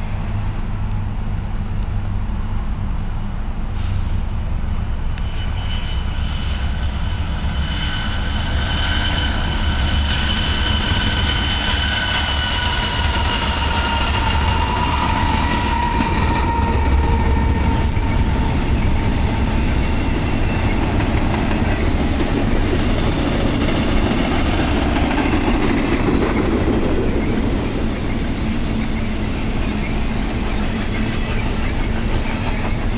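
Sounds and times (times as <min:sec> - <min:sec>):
diesel locomotives rumbling: 0:00.0 - 0:32.9
rail cars rumbling: 0:00.0 - 0:32.9
high whining tones: 0:05.2 - 0:32.8.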